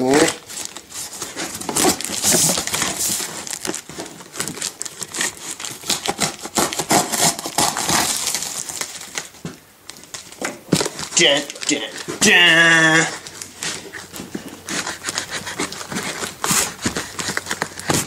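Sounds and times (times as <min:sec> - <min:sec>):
packing tape crinkling and tearing: 0:00.0 - 0:18.0.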